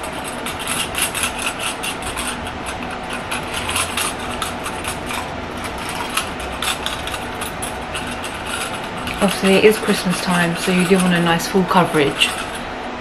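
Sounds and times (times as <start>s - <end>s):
brush scratching on skin: 0.0s - 12.7s
low steady hum: 0.0s - 13.0s.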